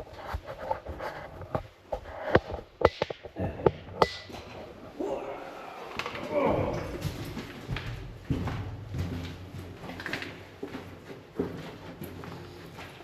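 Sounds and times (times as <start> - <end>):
footsteps and scuffs: 0.0 - 3.4, 5.8 - 13.0.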